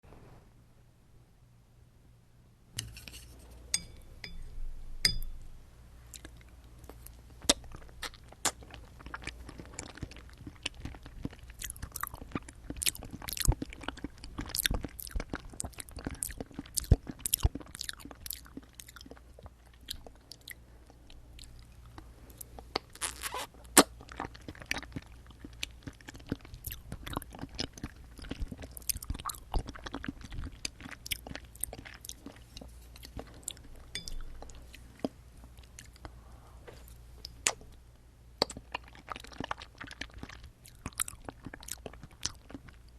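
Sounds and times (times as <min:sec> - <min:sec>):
chewing and biting jelly: 0:06.1 - 0:36.2, 0:38.4 - 0:42.9.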